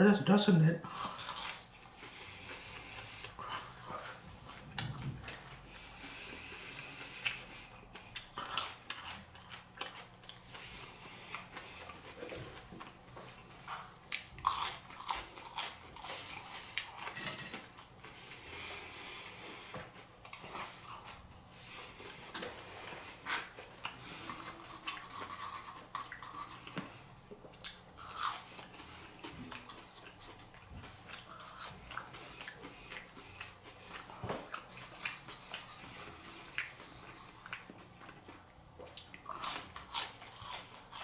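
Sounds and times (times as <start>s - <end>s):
chewing crispy food: 0.9s - 41.0s.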